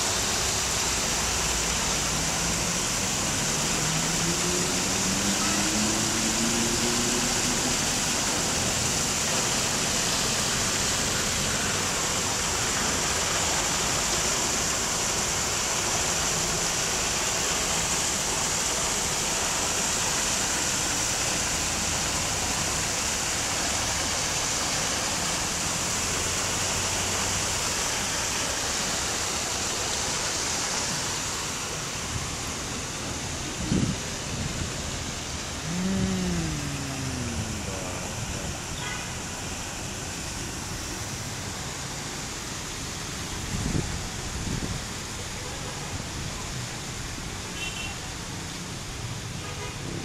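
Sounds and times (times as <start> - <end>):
water cascading over stone wall: 0.0 - 50.0.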